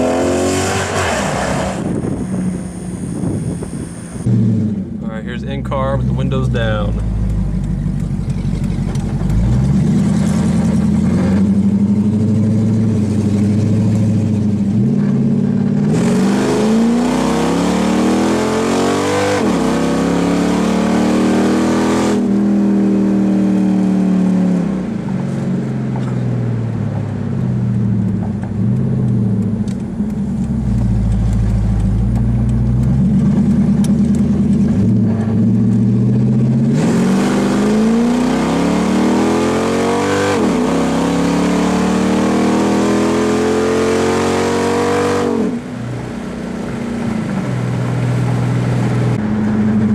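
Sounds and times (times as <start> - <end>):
loud car exhaust note: 0.0 - 49.9.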